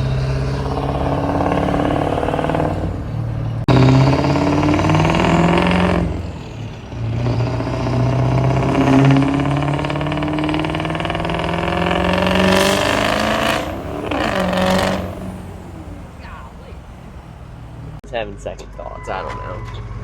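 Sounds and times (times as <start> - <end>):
diesel truck accelerating: 0.0 - 19.1.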